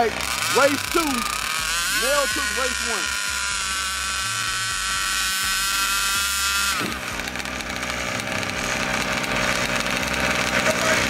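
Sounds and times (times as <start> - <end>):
small two-stroke engine whine: 0.0 - 11.0.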